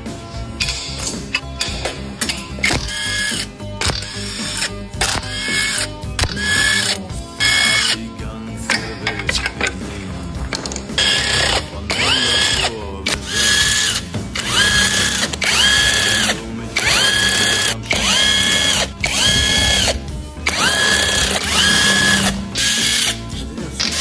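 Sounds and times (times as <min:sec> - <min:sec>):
power tool removing bolts: 0:00.6 - 0:08.1, 0:08.7 - 0:09.8, 0:10.5 - 0:24.0.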